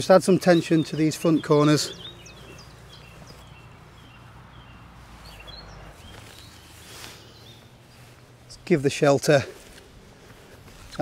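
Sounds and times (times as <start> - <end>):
small birds chirping: 0.0 - 11.0
soft brushing: 2.1 - 11.0.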